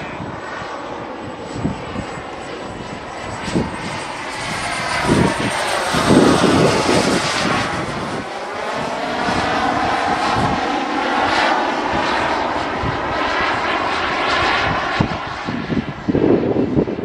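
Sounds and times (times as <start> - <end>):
model jet turbine engine: 0.0 - 17.0.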